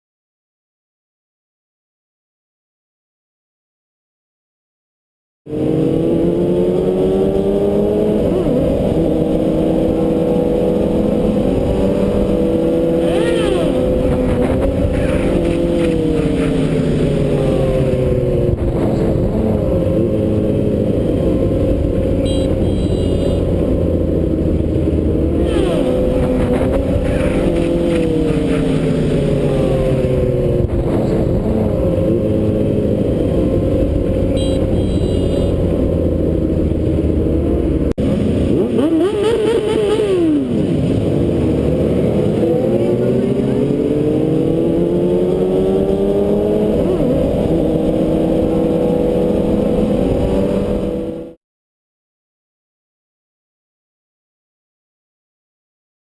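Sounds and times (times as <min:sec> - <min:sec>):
vehicle engines revving: 0:05.5 - 0:51.4.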